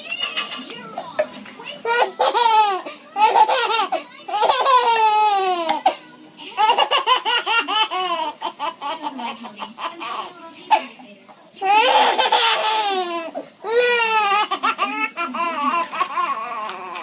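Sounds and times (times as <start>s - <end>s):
baby laughing: 0.0s - 1.0s, 1.8s - 10.8s, 11.6s - 17.0s.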